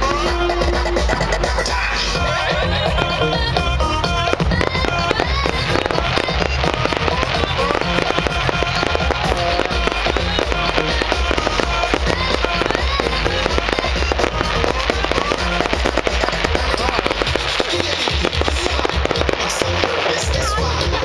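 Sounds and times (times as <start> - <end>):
fireworks bangs and crackles: 0.0 - 21.0
loud pop music with bass: 0.0 - 21.0.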